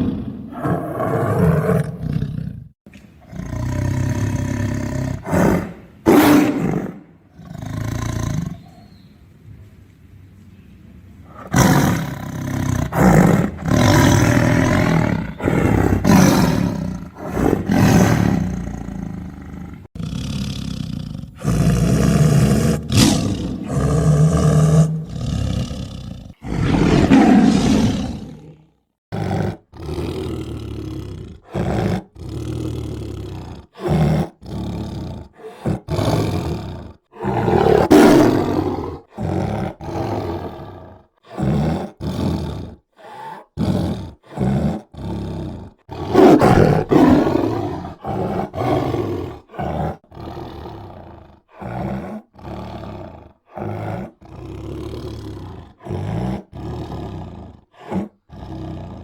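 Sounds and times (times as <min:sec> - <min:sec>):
tiger roaring: 0:00.0 - 0:08.9, 0:11.2 - 0:59.0.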